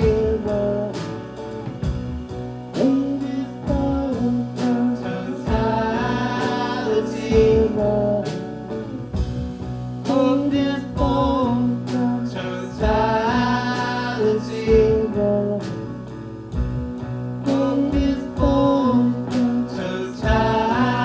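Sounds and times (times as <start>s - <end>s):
person singing: 0.0s - 1.7s, 2.7s - 9.3s, 10.0s - 16.1s, 17.4s - 21.0s
live band music: 0.0s - 21.0s.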